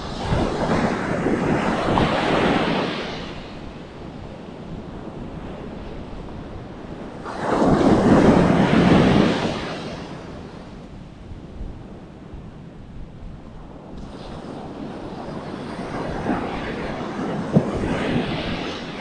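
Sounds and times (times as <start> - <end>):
waves crashing on beach: 0.0 - 19.0.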